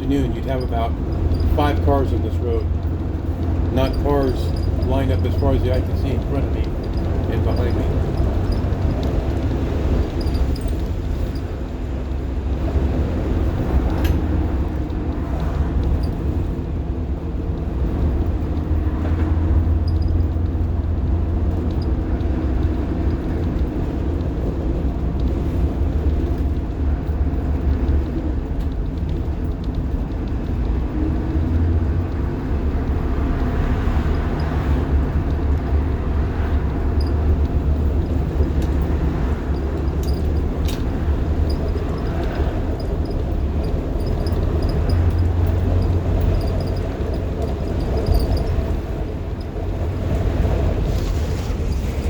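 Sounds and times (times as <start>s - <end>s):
bus diesel engine rumbling: 0.0s - 52.0s.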